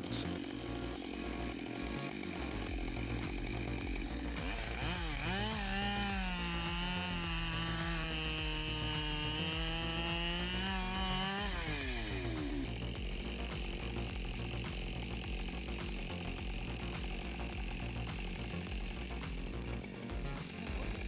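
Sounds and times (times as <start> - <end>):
chainsaw revving: 0.0 - 21.0.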